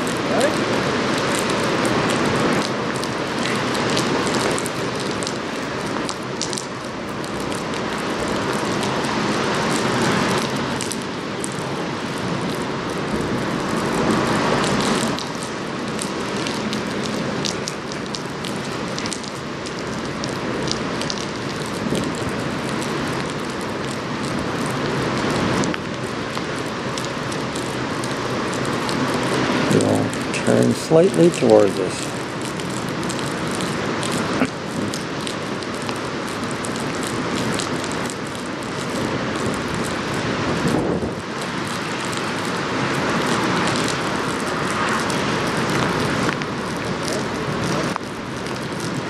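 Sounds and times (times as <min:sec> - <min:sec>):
raindrops ticking close: 0:00.0 - 0:49.0
steady rain: 0:00.0 - 0:49.0.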